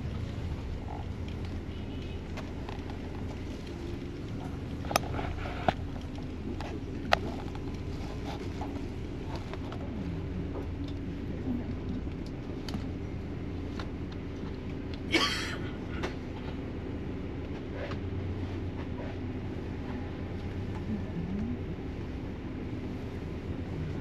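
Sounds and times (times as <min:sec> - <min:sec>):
vehicle rumble from inside: 0:00.0 - 0:24.0.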